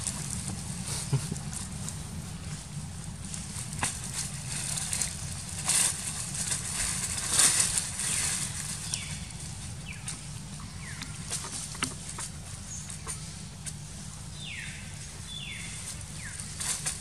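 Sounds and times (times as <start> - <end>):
dry leaves rustling and crunching: 0.0 - 17.0
steady low hum: 0.0 - 17.0.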